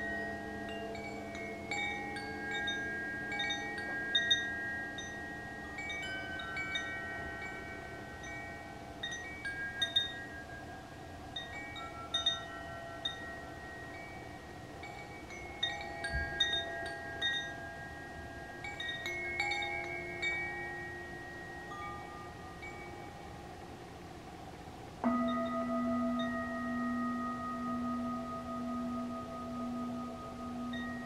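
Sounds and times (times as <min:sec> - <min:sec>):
wind chime ringing tones: 0:00.0 - 0:24.1, 0:25.0 - 0:31.0.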